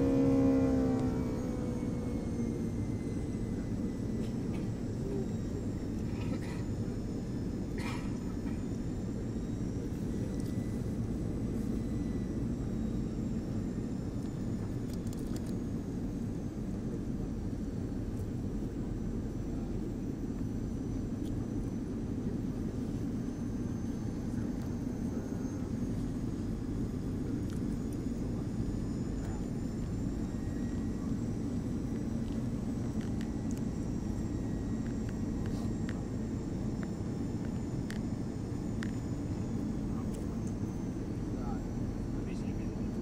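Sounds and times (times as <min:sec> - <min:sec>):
faint high whine: 0:00.0 - 0:43.0
jet engine roar in cabin: 0:00.0 - 0:43.0.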